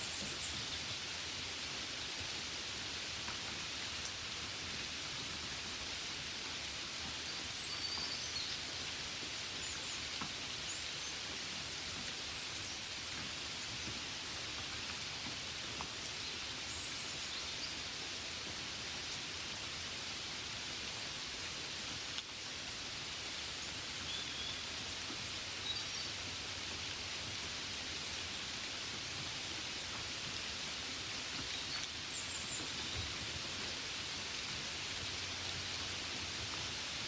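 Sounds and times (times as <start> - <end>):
rain falling on a window: 0.0 - 37.0.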